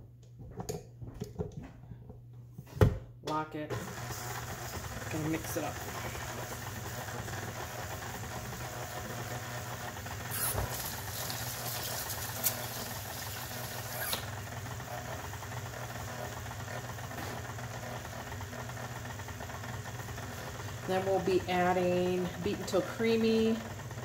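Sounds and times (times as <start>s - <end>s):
stand mixer running: 3.7s - 24.0s.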